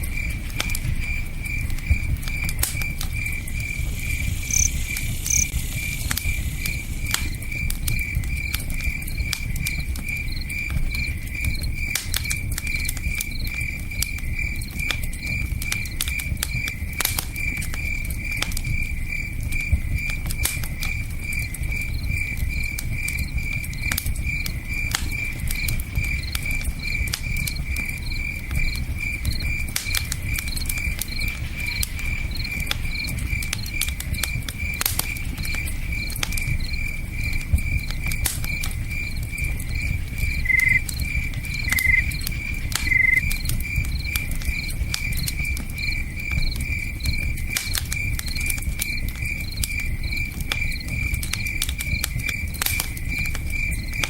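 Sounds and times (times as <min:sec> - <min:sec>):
campfire crackling and popping: 0:00.0 - 0:54.0
cricket chirping: 0:00.0 - 0:54.0.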